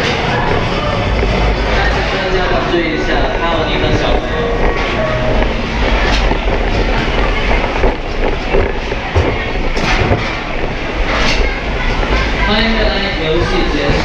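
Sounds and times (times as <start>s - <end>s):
roller coaster wheels rumbling: 0.0s - 14.0s.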